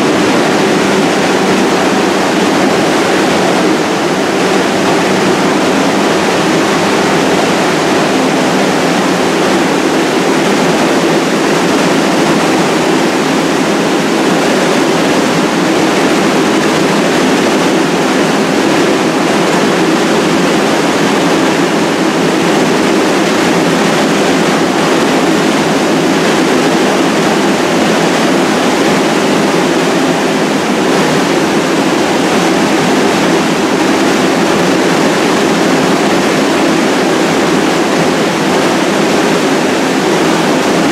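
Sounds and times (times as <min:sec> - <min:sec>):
train equipment rushing hum: 0:00.0 - 0:40.9.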